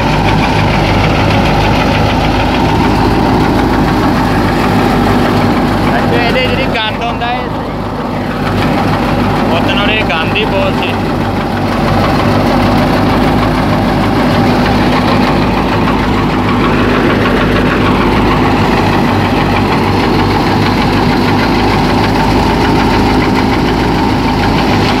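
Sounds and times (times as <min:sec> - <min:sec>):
thresher machine drone: 0:00.0 - 0:25.0
tractor diesel engine hum: 0:00.0 - 0:25.0.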